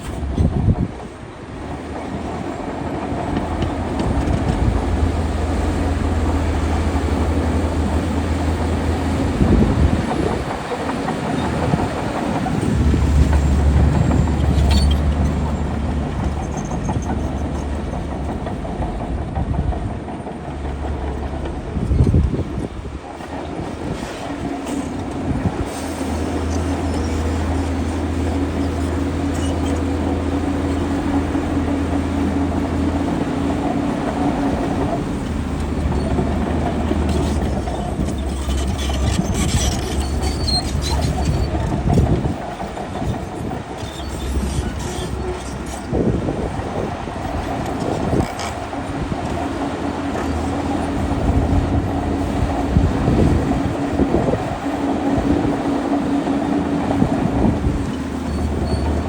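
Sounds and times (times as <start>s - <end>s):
bulldozer diesel engine running: 0.0s - 59.0s
steel tracks clattering: 0.0s - 59.0s.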